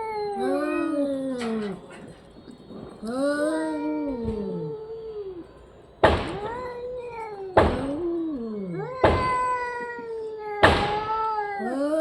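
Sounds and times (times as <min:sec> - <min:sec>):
cat yowling: 0:00.0 - 0:12.0.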